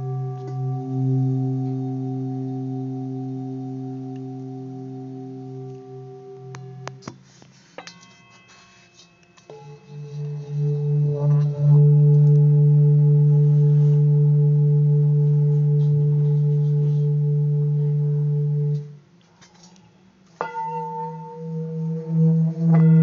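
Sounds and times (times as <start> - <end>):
singing bowl ringing: 0.0 - 7.0, 7.6 - 18.8, 20.4 - 23.0.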